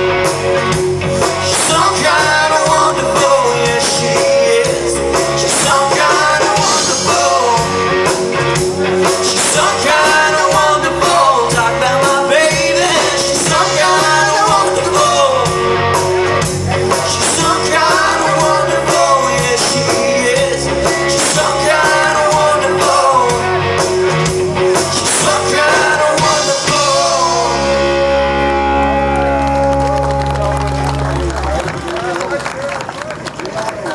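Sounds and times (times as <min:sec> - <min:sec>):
rock and roll band playing: 0:00.0 - 0:31.9
guitar: 0:00.0 - 0:32.0
drums: 0:00.0 - 0:32.3
person singing: 0:01.2 - 0:31.0.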